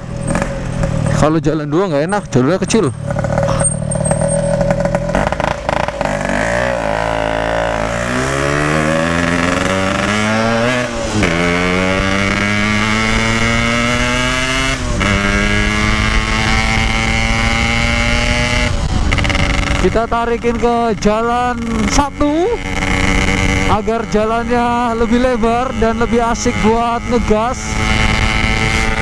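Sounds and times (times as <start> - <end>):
two-stroke motorcycle accelerating: 0.0 - 29.0.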